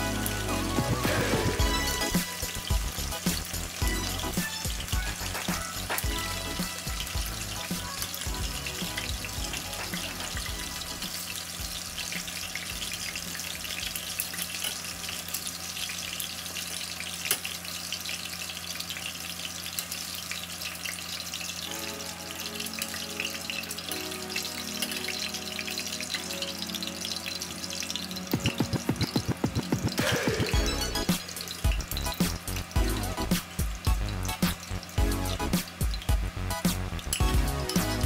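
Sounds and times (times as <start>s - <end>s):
hot oil sizzling and crackling: 0.0s - 38.0s.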